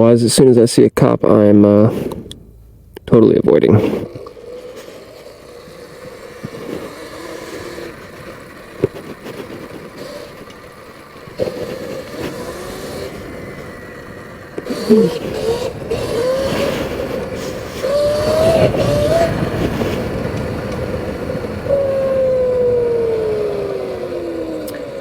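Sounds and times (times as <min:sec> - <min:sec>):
electric motor whine: 0:03.9 - 0:25.0.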